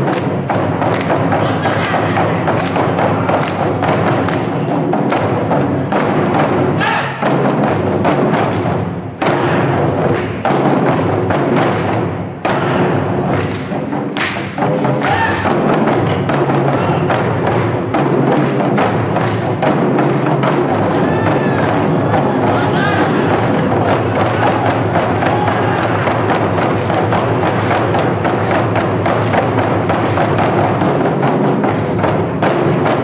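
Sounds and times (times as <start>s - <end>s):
heavy drum strikes: 0.0s - 33.0s.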